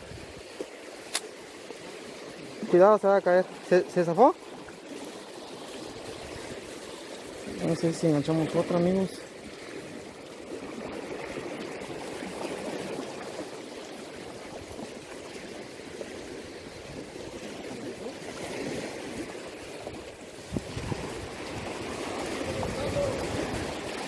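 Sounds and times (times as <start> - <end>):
turbulent water rushing: 0.0 - 24.0.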